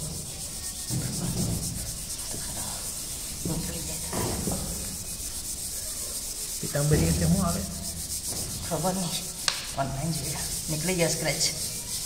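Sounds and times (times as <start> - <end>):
cloth pad scrubbing tile: 0.0 - 12.0.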